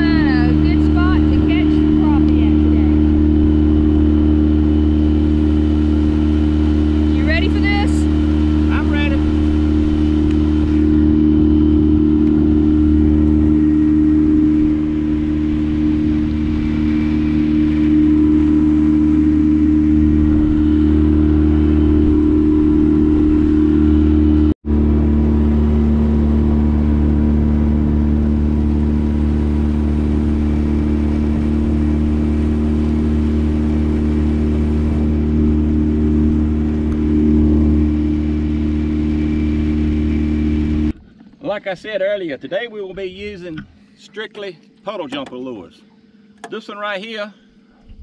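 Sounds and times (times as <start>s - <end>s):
outboard motor running: 0.0s - 48.0s
water noise: 0.0s - 48.0s
wind: 0.0s - 48.0s.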